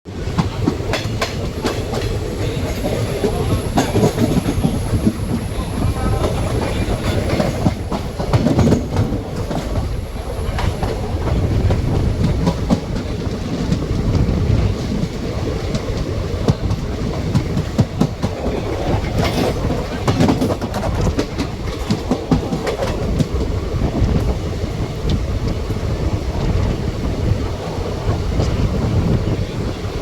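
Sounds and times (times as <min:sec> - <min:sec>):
train rumbling on track: 0:00.0 - 0:30.0
wheels clattering over rails: 0:00.1 - 0:30.0.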